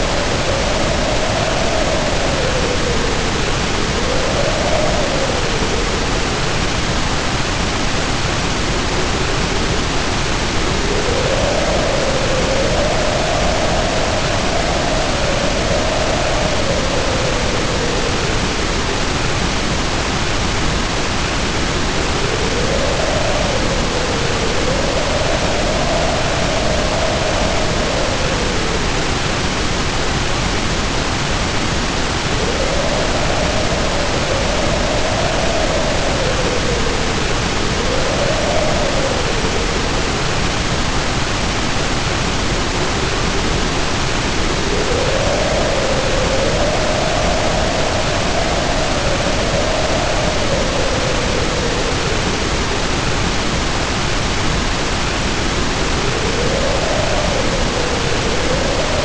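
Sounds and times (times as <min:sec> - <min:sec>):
heavy rain pouring: 0:00.0 - 0:59.0
wind howling: 0:00.0 - 0:59.0.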